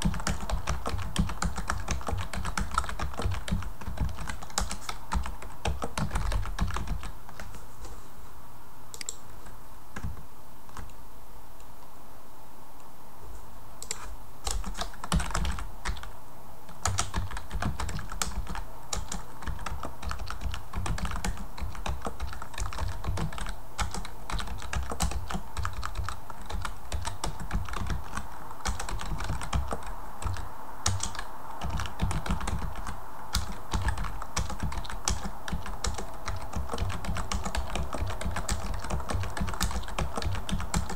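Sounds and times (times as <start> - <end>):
computer keyboard typing: 0.0 - 7.6, 13.8 - 16.1, 16.7 - 40.9.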